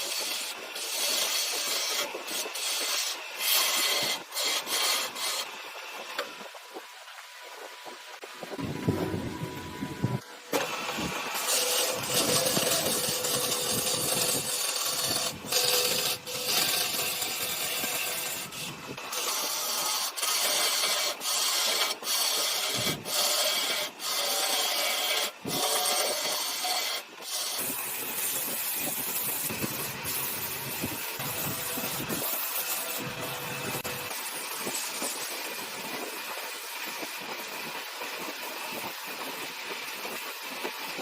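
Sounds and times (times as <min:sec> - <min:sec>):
woodworking tool working wood: 0:00.0 - 0:41.0.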